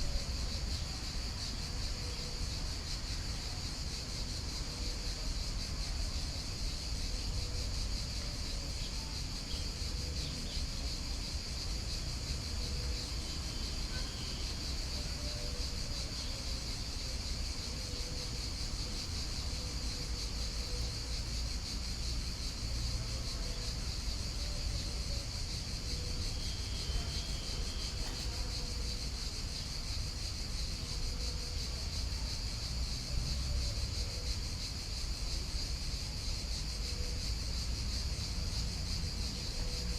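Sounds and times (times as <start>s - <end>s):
insect chorus chirring: 0.0s - 39.9s.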